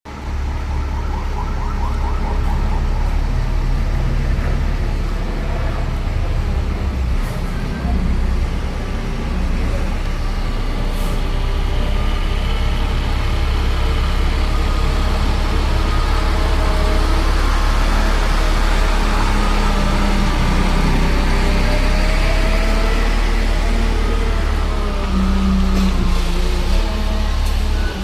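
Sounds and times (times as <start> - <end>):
truck diesel engine rumbling: 0.1 - 28.0.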